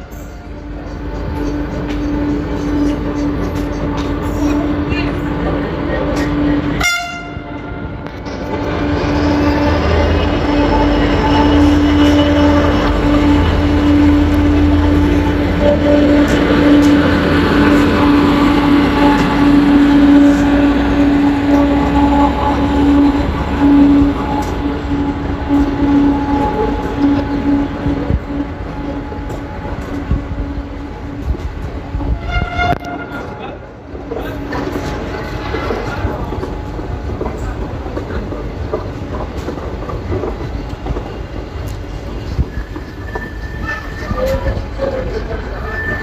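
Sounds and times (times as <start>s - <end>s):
train cars rumbling past: 0.0s - 46.0s.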